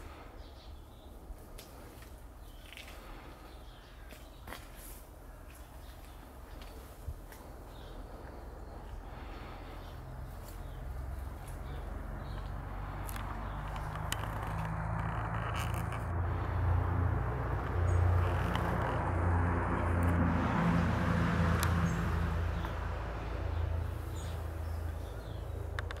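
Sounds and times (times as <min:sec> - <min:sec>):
distant engine hum: 0:00.0 - 0:26.0
steady outdoor hiss: 0:00.0 - 0:26.0.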